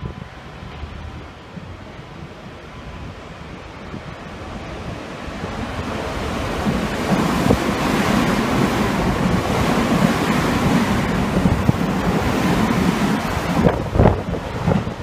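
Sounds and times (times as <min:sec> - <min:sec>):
electric train rushing past: 0:00.0 - 0:15.0.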